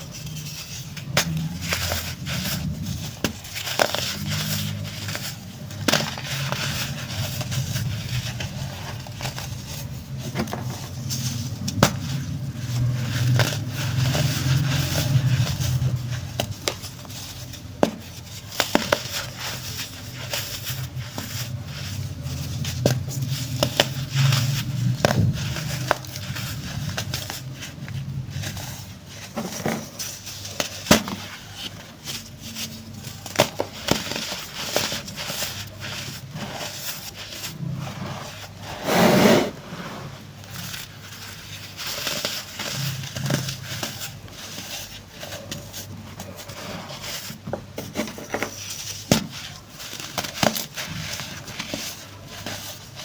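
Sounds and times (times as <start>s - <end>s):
baking soda crunching: 0.0s - 53.0s.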